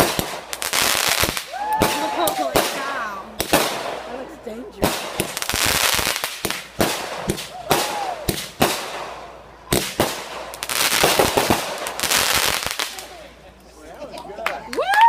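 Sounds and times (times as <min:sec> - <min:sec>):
fireworks bangs and crackles: 0:00.0 - 0:13.4.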